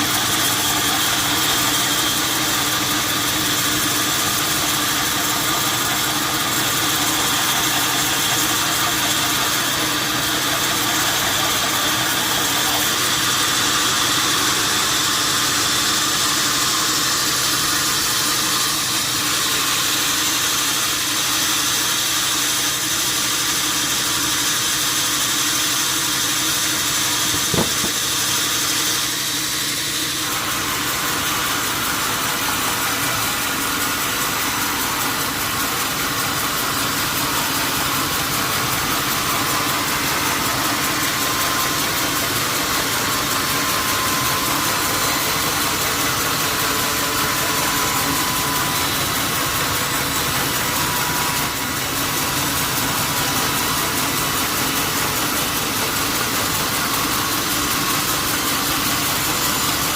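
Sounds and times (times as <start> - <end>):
steady mechanical hum with hiss: 0.0 - 59.9.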